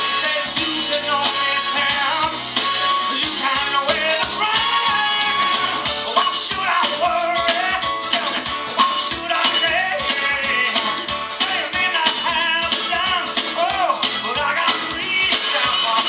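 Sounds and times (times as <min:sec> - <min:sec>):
pop-rock song with vocals: 0:00.0 - 0:16.0.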